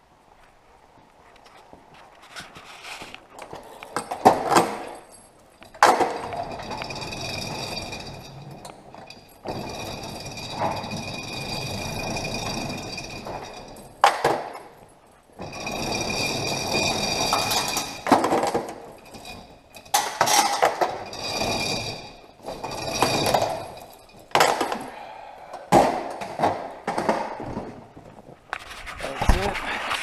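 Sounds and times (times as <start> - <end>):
metal chain clinking and rattling: 2.0 - 28.4.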